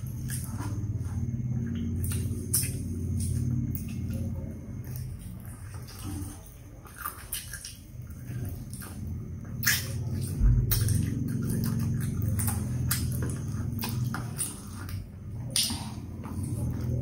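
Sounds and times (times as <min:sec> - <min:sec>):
low steady hum: 0:00.0 - 0:17.0
chewing and wet mouth clicks: 0:01.6 - 0:17.0.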